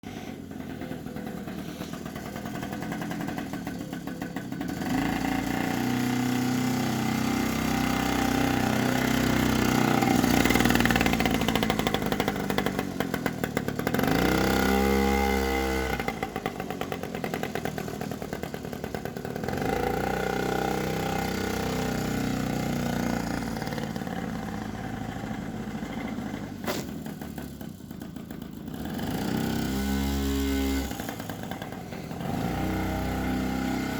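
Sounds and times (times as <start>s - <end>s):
two-stroke engine revving: 0.0s - 33.9s.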